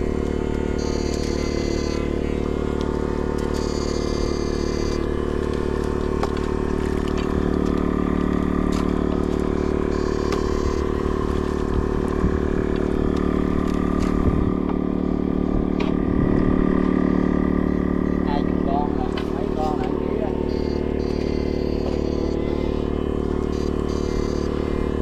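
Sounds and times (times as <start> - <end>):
mechanical drone: 0.0 - 25.0.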